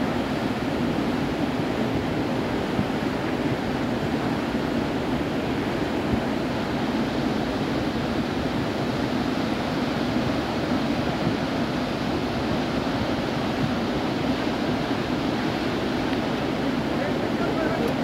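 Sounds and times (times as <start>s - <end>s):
river torrent rushing over boulders: 0.0s - 18.0s.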